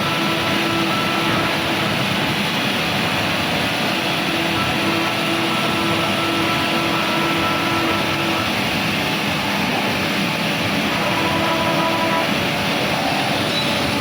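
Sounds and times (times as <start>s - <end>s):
faint machine whining tones: 0.0s - 9.5s, 10.6s - 14.0s
machining center rushing noise: 0.0s - 14.0s.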